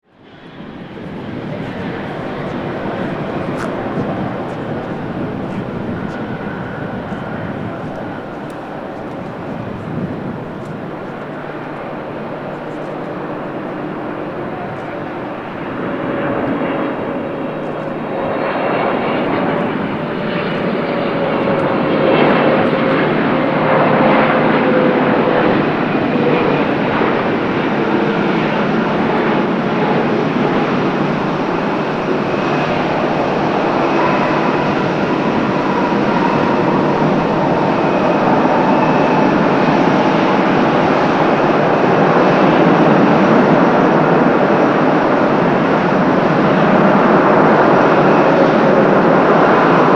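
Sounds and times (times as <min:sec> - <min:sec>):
jet engines rumbling with whine: 0:00.0 - 0:49.9.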